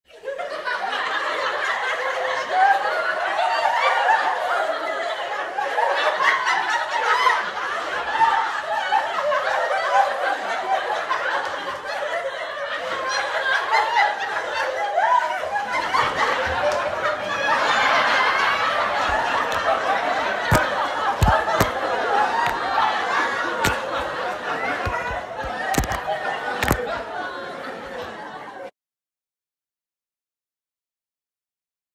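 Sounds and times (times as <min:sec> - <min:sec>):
people laughing: 0:00.1 - 0:28.7.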